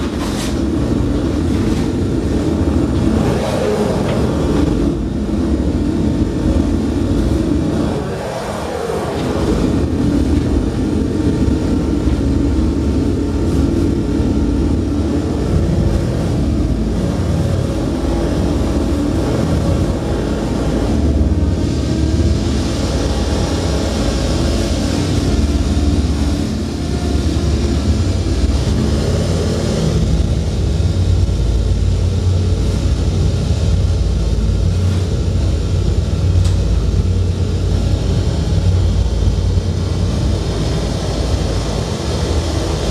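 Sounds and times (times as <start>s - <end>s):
low rumbling drone: 0.0s - 42.9s.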